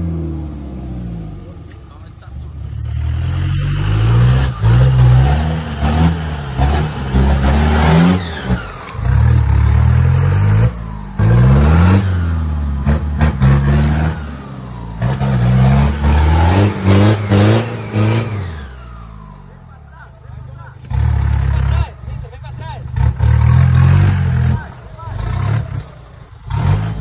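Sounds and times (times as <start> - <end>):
engine revving hard: 0.0 - 19.6, 20.8 - 27.0.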